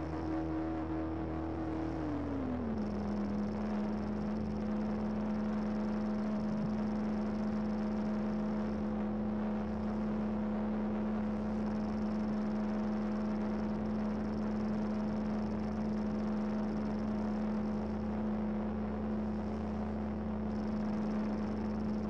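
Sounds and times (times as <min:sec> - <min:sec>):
faint high whine: 0:00.0 - 0:22.0
low steady drone: 0:00.0 - 0:22.0.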